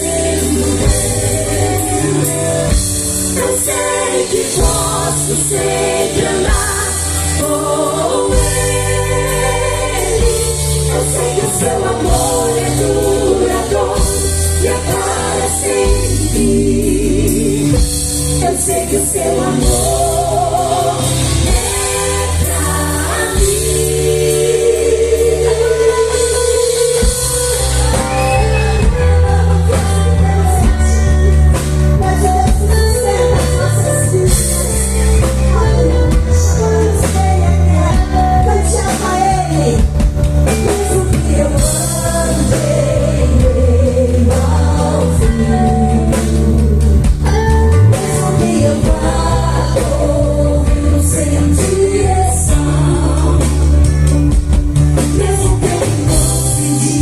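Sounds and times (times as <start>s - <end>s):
worship band playing: 0.0s - 57.0s.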